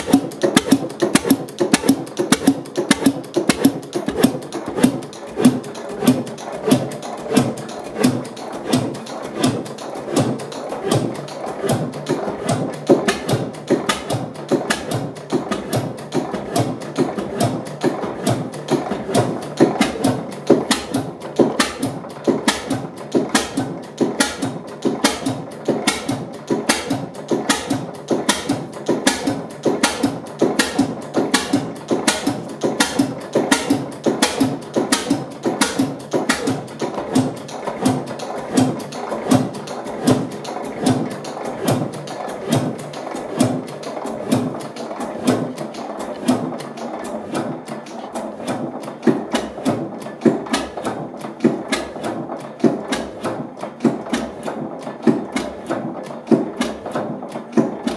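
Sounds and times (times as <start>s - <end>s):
mechanical rumble: 0.0s - 57.9s
stationary engine clattering: 0.0s - 57.9s.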